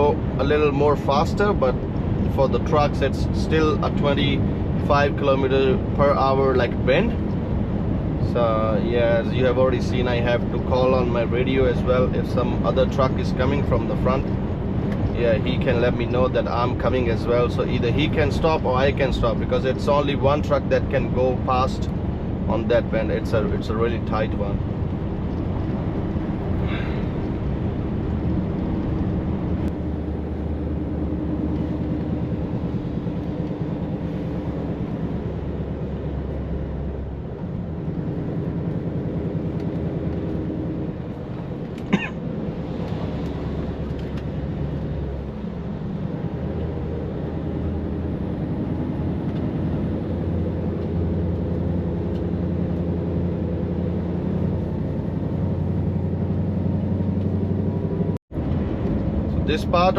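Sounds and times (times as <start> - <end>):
truck engine and tyre noise: 0.0 - 59.9.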